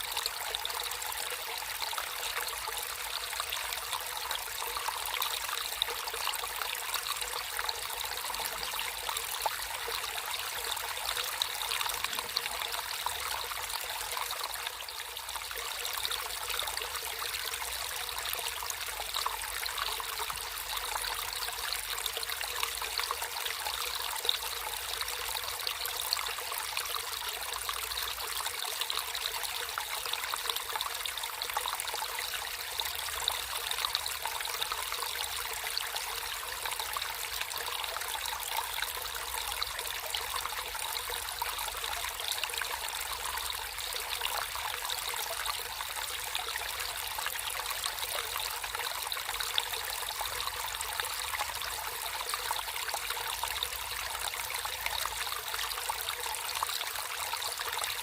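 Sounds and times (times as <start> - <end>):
water trickling in a stream: 0.0 - 58.0.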